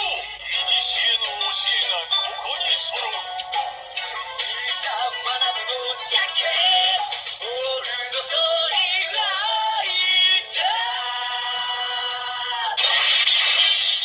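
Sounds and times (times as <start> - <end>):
synthesized voice singing over music: 0.0 - 14.0.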